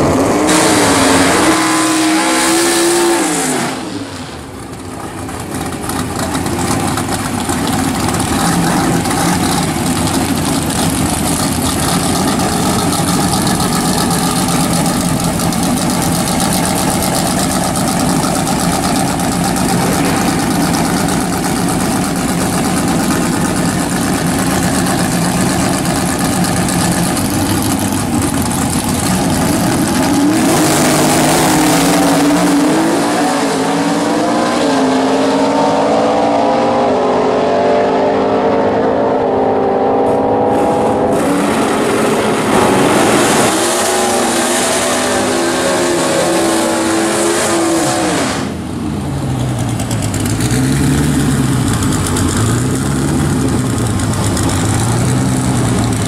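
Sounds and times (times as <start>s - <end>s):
car engine revving: 0.0s - 56.0s
race car engines accelerating: 0.0s - 56.0s.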